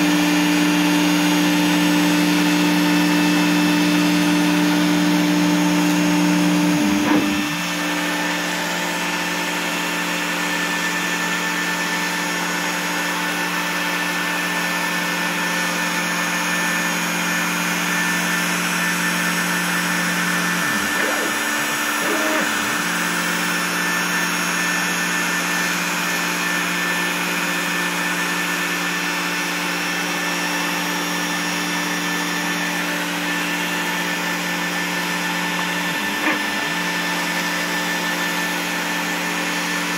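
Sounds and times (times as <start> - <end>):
router cutting foam board: 0.0 - 39.9
shop vacuum running: 0.0 - 39.9.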